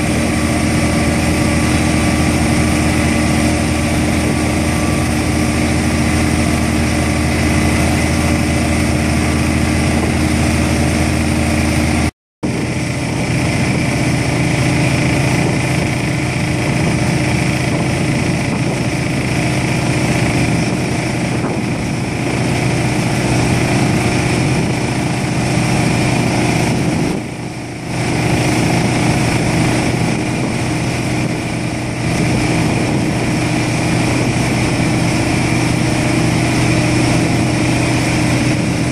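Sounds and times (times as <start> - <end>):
vibratory pile hammer drone: 0.0 - 38.9.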